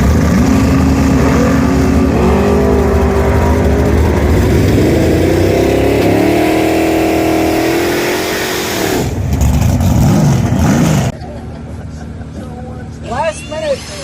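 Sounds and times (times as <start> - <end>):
race car engine at full throttle: 0.0 - 13.2.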